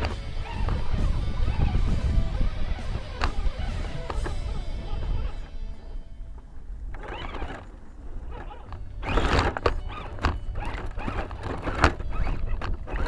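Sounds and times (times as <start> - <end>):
low rumble: 0.0 - 12.9.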